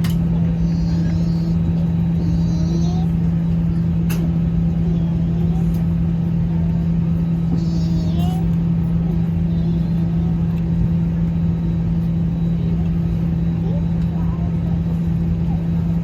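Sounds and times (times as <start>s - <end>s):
aircraft cabin engine hum: 0.0s - 16.0s
faint passenger voices: 0.0s - 16.0s.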